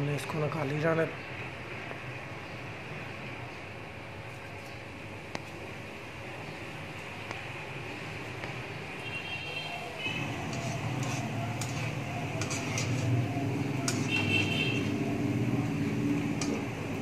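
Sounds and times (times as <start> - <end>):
batter deep-frying in hot oil: 0.0 - 17.0.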